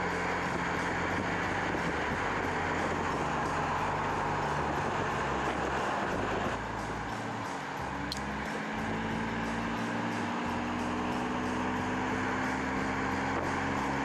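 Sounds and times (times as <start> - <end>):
car engine drone: 0.0 - 14.0
road and wind noise: 0.0 - 14.0.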